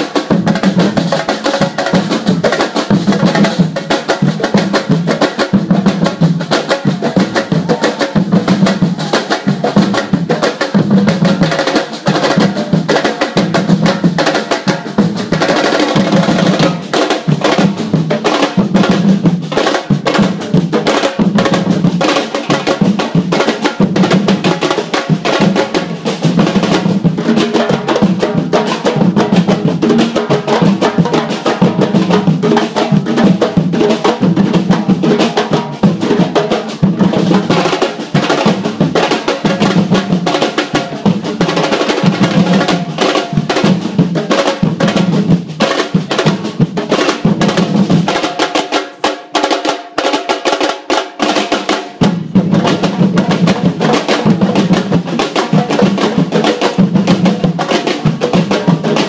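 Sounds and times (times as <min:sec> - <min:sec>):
surdo bass drums beating: 0:00.0 - 0:48.1, 0:51.8 - 0:59.0
samba drum band playing: 0:00.0 - 0:59.0
snare drum: 0:00.0 - 0:59.0.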